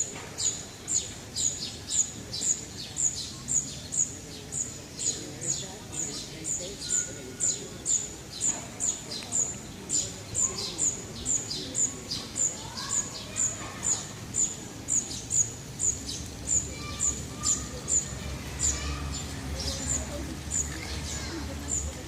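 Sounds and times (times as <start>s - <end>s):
birds singing softly: 0.0s - 22.0s.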